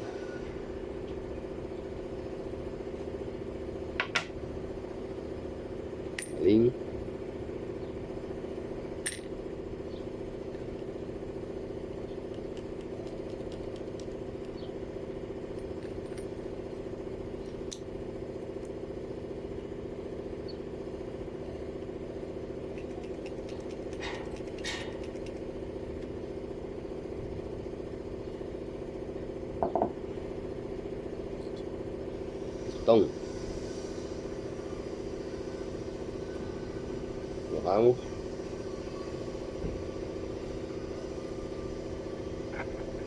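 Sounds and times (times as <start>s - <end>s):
mechanical hum: 0.0s - 43.0s.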